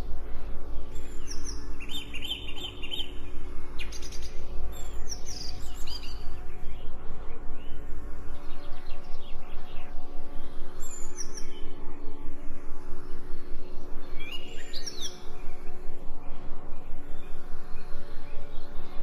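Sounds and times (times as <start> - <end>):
evenly pulsing hum: 0.0 - 19.0
songbirds chirping: 0.0 - 19.0.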